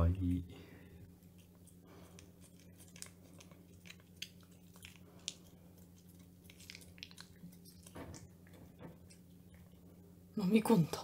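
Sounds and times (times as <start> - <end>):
cat chewing crunchily: 1.1 - 10.3.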